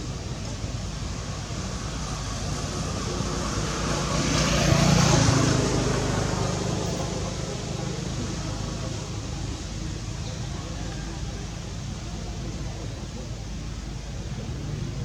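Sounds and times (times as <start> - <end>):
vehicle engine hum passing: 0.0 - 15.0.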